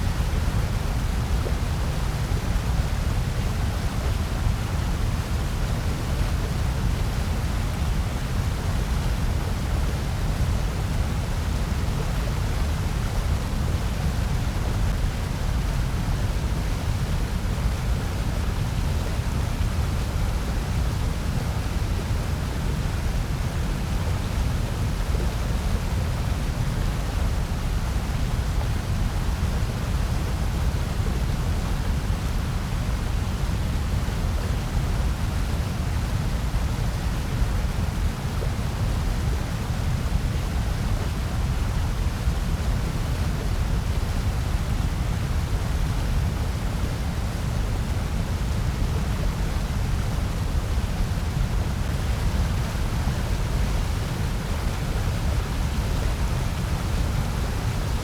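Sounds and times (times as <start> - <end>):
white noise rush: 10.5 - 58.0.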